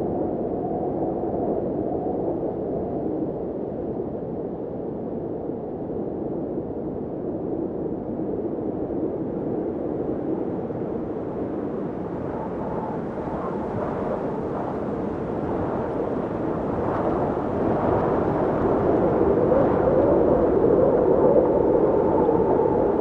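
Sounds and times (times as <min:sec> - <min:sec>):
blizzard wind howling: 0:00.0 - 0:23.0.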